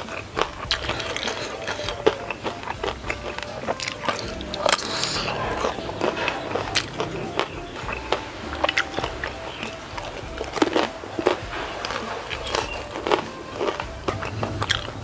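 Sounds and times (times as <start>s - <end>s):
crunching and chewing: 0.0s - 15.0s
crust crackling: 0.0s - 15.0s.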